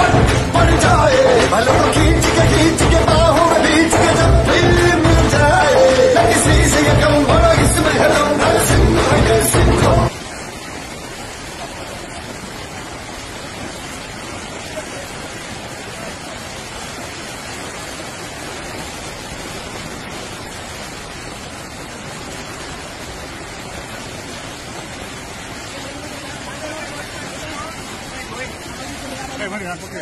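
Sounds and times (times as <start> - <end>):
heavy rain hissing: 0.0 - 30.0
running floodwater: 0.0 - 30.0.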